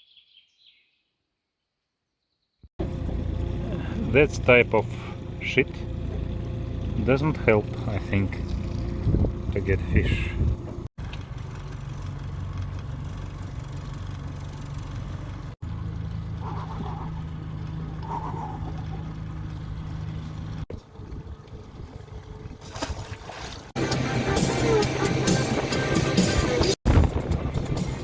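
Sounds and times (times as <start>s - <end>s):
outboard motor humming: 2.8s - 28.0s.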